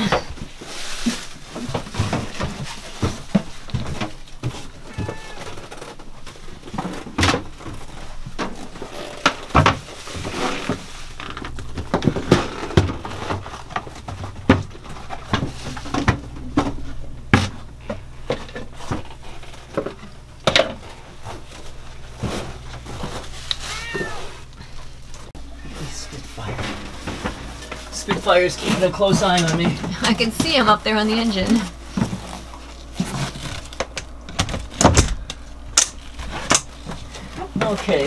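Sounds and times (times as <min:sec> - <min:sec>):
containers and locker doors clattering: 0:00.0 - 0:23.4, 0:25.4 - 0:38.0
steady low hum: 0:00.0 - 0:38.0.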